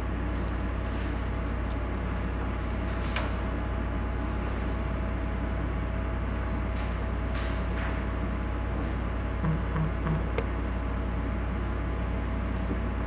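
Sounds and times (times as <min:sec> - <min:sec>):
low hum of room machinery: 0:00.0 - 0:13.0.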